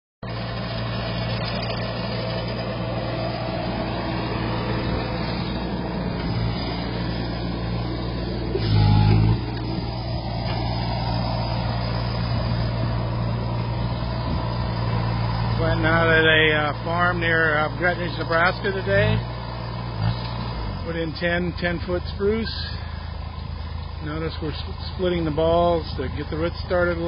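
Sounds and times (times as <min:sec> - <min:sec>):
compact loader engine running: 0:00.2 - 0:27.0.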